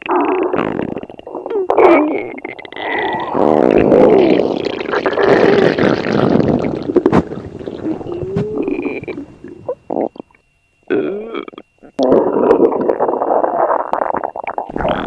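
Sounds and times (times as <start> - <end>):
stomach growling: 0.0 - 15.0.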